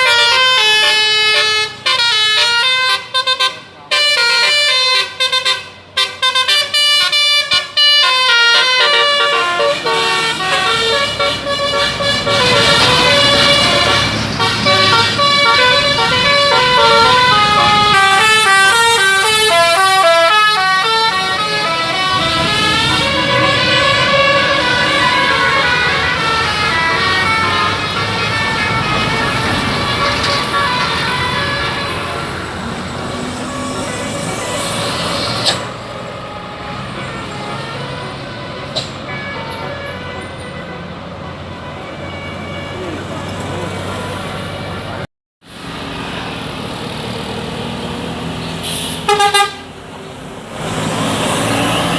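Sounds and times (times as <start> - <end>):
bus musical air horn tune: 0.0 - 44.9, 48.6 - 49.8
road traffic: 0.0 - 51.9
heavy vehicle passing: 8.5 - 51.9.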